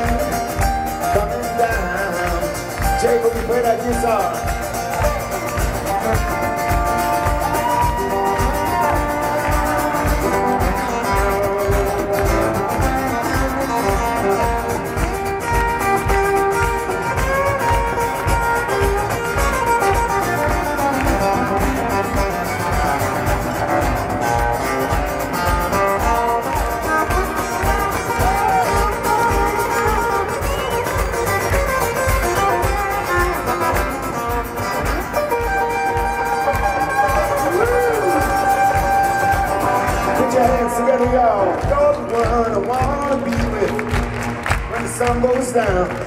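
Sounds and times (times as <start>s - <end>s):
electric guitar solo: 0.0s - 42.2s
steady drum beat: 0.0s - 46.0s.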